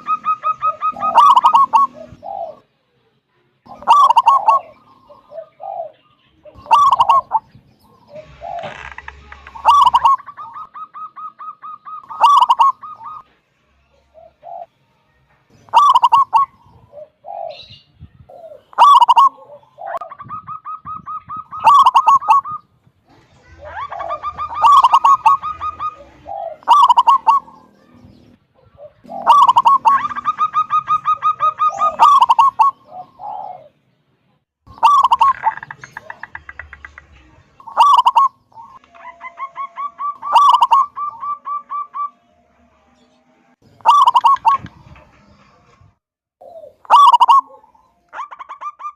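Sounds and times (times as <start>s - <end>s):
dove cooing with purring trill: 0.0s - 2.7s, 3.7s - 13.3s, 14.1s - 14.7s, 15.7s - 22.7s, 23.4s - 33.8s, 34.7s - 36.7s, 37.6s - 42.2s, 43.8s - 44.8s, 46.4s - 48.9s.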